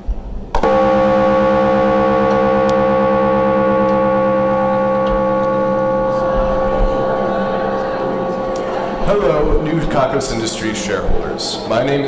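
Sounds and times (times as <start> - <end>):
synthesizer chord drone: 0.6 - 12.0.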